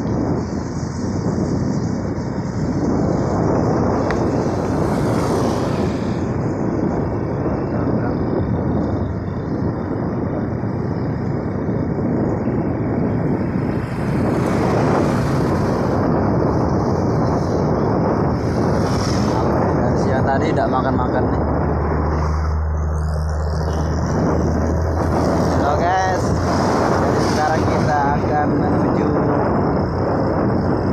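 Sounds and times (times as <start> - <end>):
engine and road noise: 0.0 - 30.9
wind on microphone: 0.0 - 30.9.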